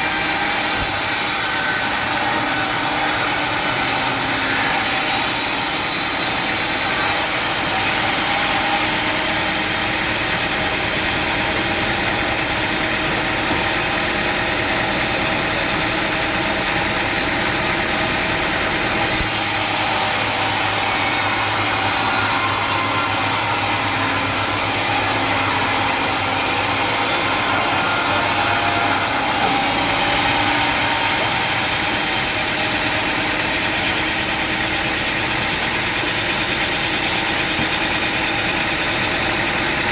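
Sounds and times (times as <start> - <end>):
saw milling wood: 0.0 - 39.9
sawmill engine running: 0.0 - 39.9.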